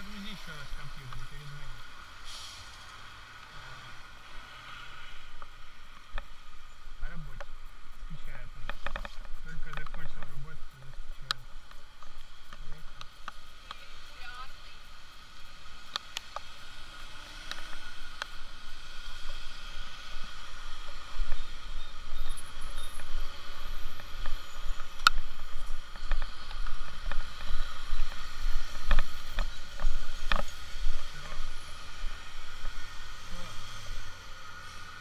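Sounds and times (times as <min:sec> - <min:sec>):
travel noise hum: 0:00.0 - 0:35.0.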